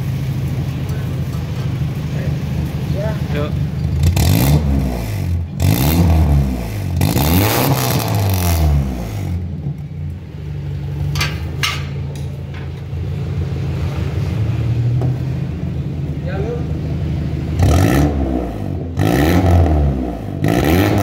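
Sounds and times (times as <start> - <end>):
engine revving and idling: 0.0 - 11.2, 12.8 - 21.0.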